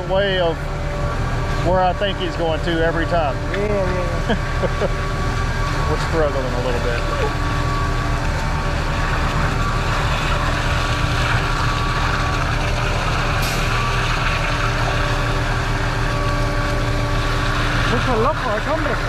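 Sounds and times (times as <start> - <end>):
diesel truck engines running: 0.0 - 19.0.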